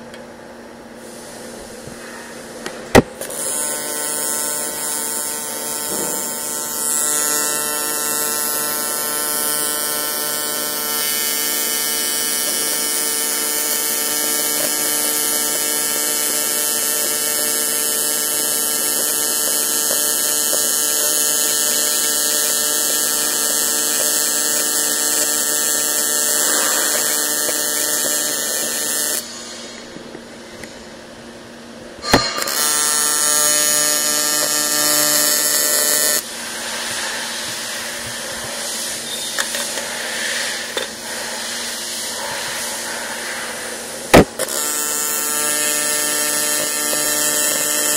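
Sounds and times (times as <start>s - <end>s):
welding arc buzzing with hiss: 1.0s - 47.9s.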